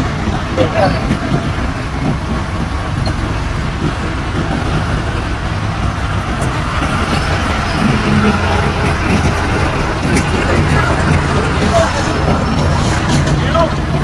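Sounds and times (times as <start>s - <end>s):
diesel construction machinery running: 0.0s - 14.0s.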